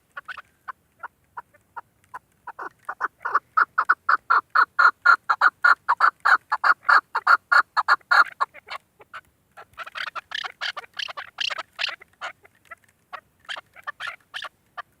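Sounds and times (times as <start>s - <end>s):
partridge clucking calls: 0.0s - 15.0s.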